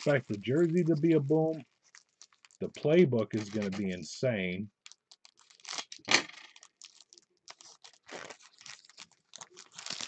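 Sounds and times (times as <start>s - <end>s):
foil wrapper tearing and crinkling: 0.0s - 4.0s, 4.8s - 10.0s.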